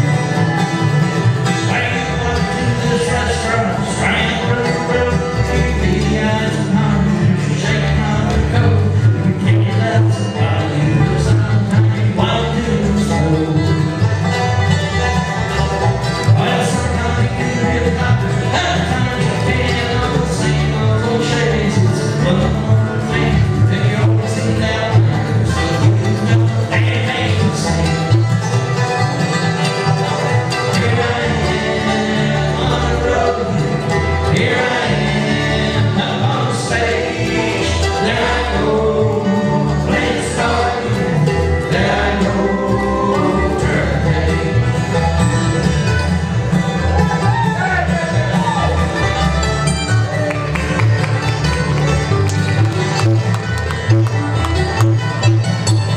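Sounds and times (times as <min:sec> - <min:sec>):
acoustic guitar: 0:00.0 - 0:55.9
banjo: 0:00.0 - 0:55.9
mandolin: 0:00.0 - 0:55.9
upright bass: 0:00.0 - 0:55.9.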